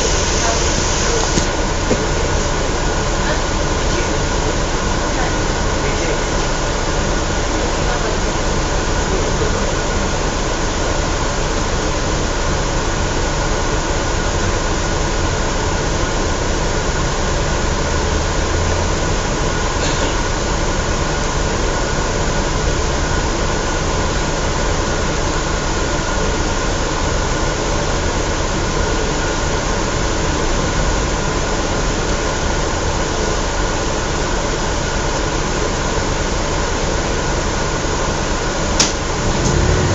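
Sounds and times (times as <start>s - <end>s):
bus engine and road drone: 0.0s - 39.9s
thin steady whine: 0.0s - 39.9s.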